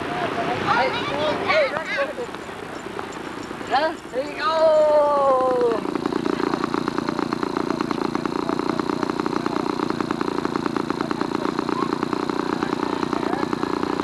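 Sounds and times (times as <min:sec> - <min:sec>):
motor running with rapid pulse: 0:00.0 - 0:14.0.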